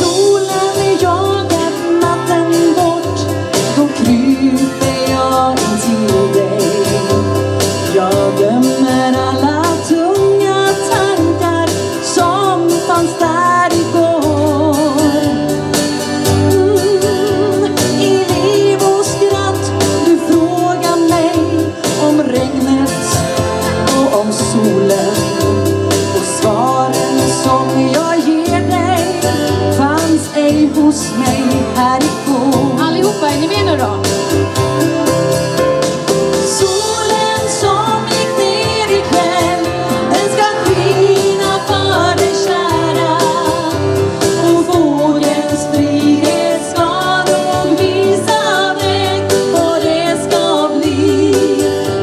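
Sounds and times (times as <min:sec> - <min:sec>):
woman singing with vibrato: 0:00.0 - 0:34.6, 0:36.3 - 0:52.0
amplified backing music: 0:00.0 - 0:52.0.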